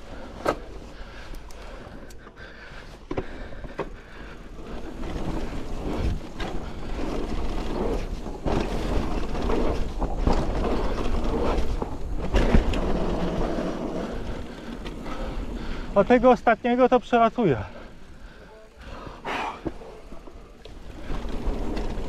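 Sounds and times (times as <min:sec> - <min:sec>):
bike tyre rumble: 0:00.0 - 0:22.0.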